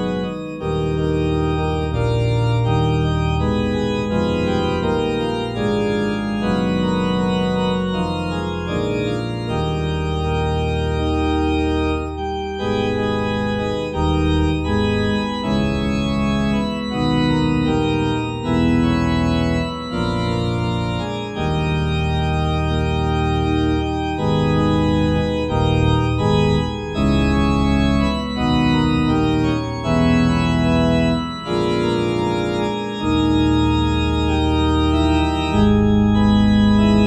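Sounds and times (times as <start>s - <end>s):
organ chords on digital piano: 0.0s - 37.0s.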